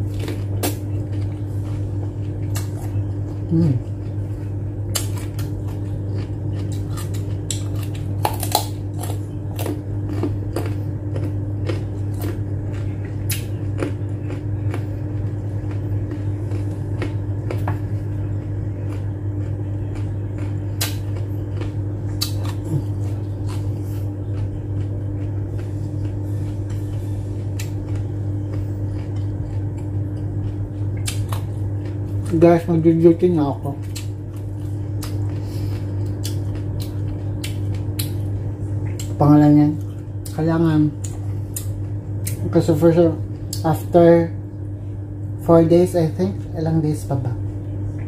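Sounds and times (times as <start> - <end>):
carrot crunching: 0.0 - 44.0
steady low hum: 0.0 - 48.0.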